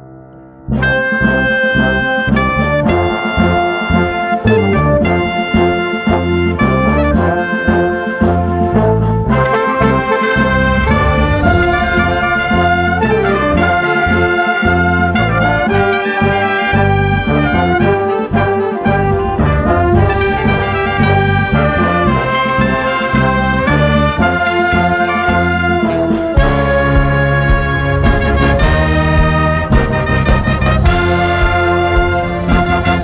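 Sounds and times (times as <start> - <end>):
live brass ensemble music: 0.6 - 33.0.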